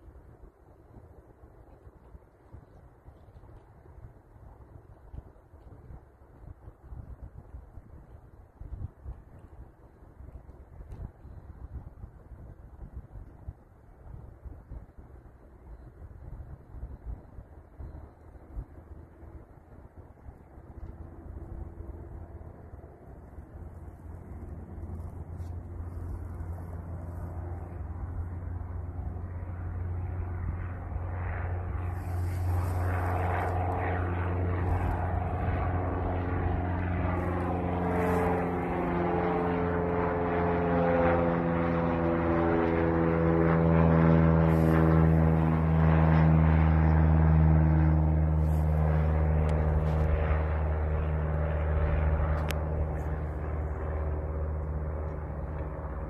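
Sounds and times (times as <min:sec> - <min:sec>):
propeller plane engine: 0:00.0 - 0:56.0.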